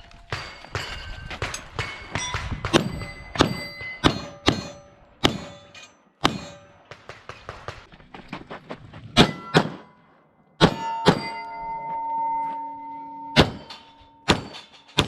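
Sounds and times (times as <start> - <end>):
steel targets clanging: 0.3 - 7.5, 9.2 - 15.0.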